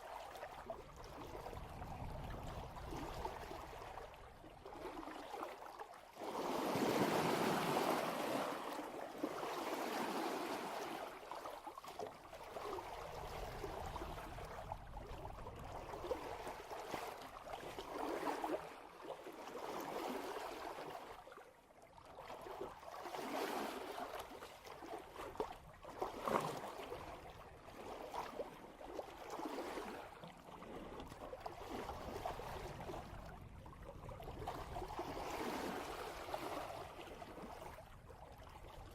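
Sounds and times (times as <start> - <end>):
water rushing along boat hull: 0.0 - 21.4, 22.0 - 38.9
wave slapping hull: 0.0 - 38.9.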